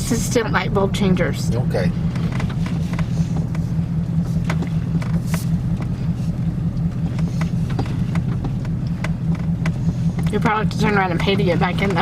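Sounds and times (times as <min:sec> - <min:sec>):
car cabin hum and rumble: 0:00.0 - 0:12.0.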